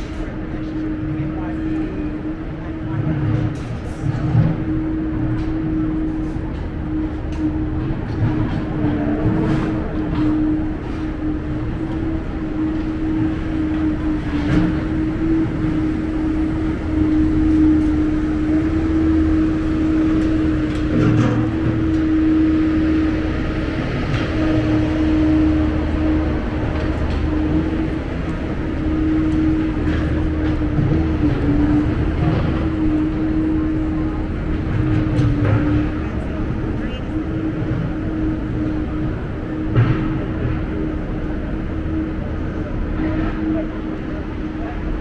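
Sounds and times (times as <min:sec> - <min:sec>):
loud steady mechanical hum: 0:00.0 - 0:45.0
traffic rumble: 0:00.0 - 0:45.0.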